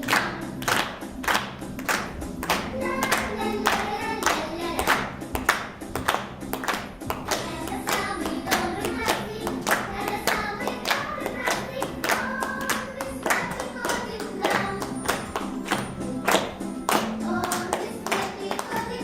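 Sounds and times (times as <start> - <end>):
hands clapping in rhythm: 0.0 - 19.0
song with singing: 0.0 - 19.0.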